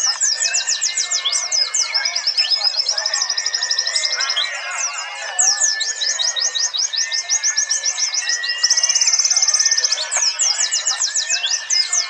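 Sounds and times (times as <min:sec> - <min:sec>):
birds singing high chirps: 0:00.0 - 0:12.0
rapid bird trill: 0:00.0 - 0:12.0.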